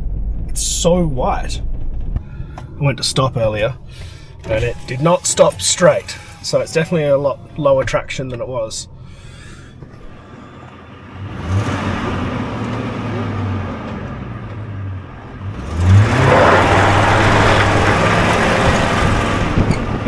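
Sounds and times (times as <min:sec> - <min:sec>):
road noise rushing: 0:00.0 - 0:20.0
pickup truck engine revving: 0:01.8 - 0:20.0.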